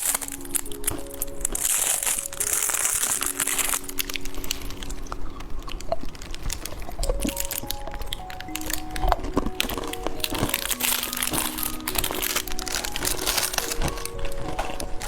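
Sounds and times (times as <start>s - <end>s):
candy crunching and crinkling: 0.0s - 15.0s
soft background music: 0.0s - 15.0s.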